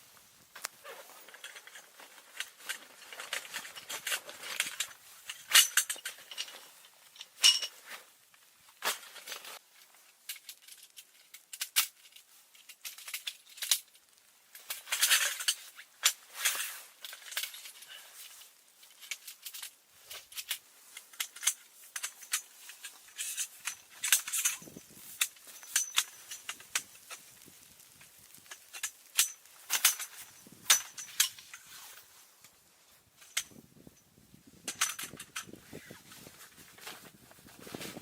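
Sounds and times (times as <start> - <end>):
handling clicks and rustles: 0.0 - 38.0.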